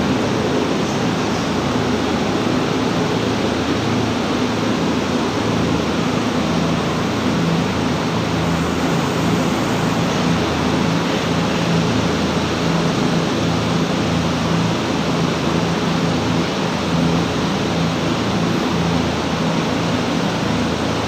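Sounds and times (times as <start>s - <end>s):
low mechanical hum: 0.0s - 21.0s
steady rushing noise: 0.0s - 21.0s.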